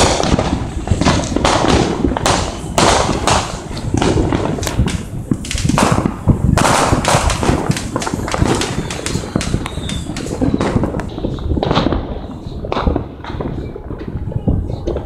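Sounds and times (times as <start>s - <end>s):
distant explosions rumbling: 0.0s - 15.0s
fireworks bangs and pops: 0.0s - 15.0s.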